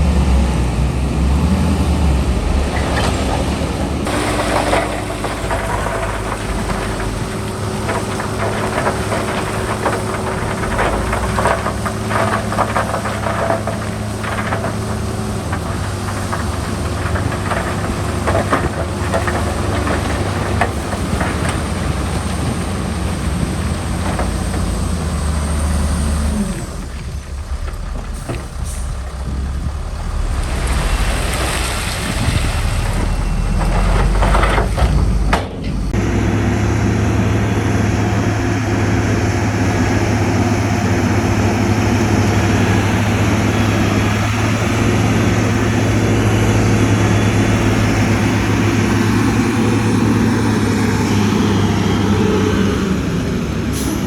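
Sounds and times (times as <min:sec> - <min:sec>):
diesel engine drone: 0:00.0 - 0:54.0
heavy construction machinery: 0:00.0 - 0:54.0.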